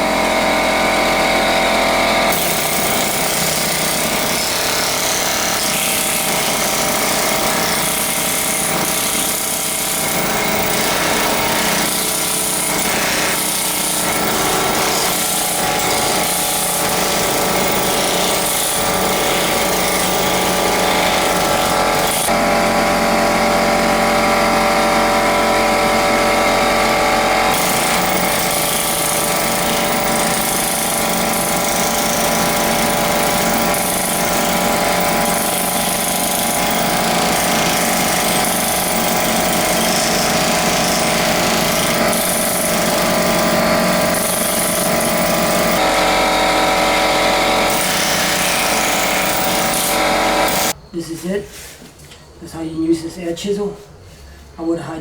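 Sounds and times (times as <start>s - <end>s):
pneumatic air hammer chiselling: 0.8s - 22.4s, 26.8s - 50.8s.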